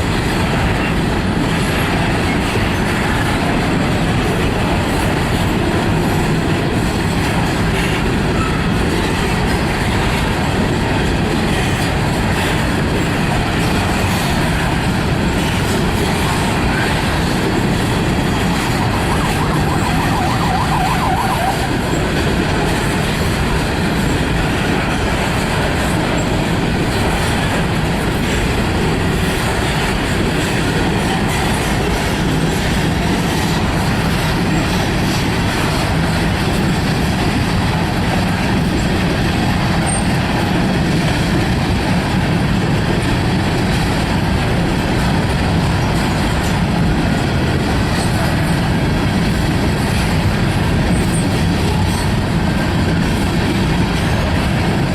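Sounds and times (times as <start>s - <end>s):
freight train cars rolling past: 0.0s - 54.9s.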